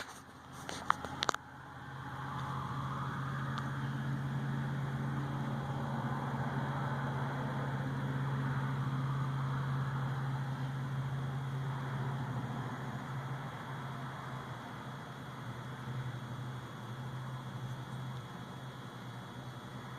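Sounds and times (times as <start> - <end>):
low mechanical hum with hiss: 0.0 - 19.9.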